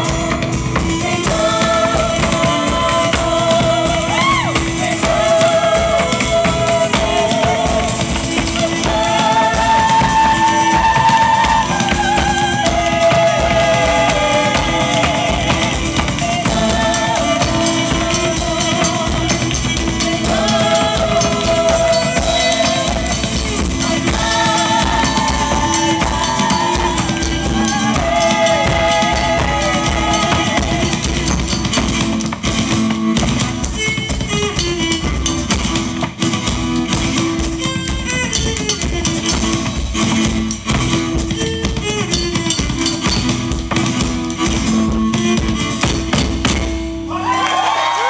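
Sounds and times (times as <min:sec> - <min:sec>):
folk melody: 0:00.0 - 0:47.4
drums beating: 0:00.0 - 0:47.8.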